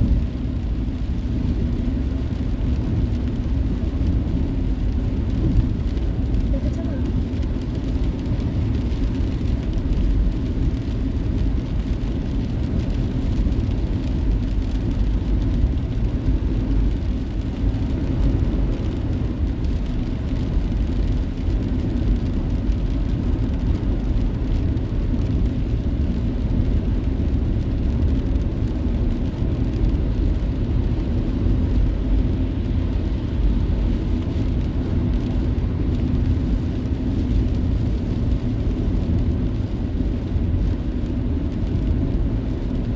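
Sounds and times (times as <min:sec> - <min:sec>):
car driving on road: 0:00.0 - 0:42.9.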